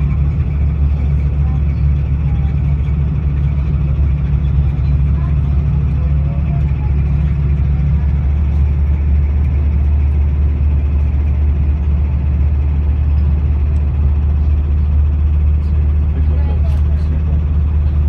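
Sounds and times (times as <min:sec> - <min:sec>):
engine drone and road noise: 0:00.0 - 0:18.0.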